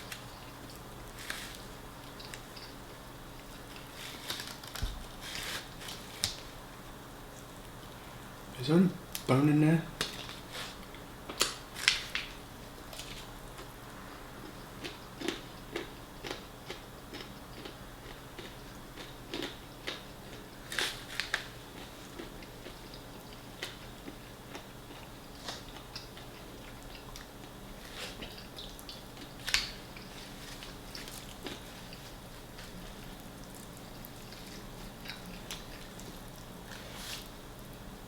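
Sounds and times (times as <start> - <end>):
chewing crunchy food: 0.0 - 6.5, 10.0 - 37.9.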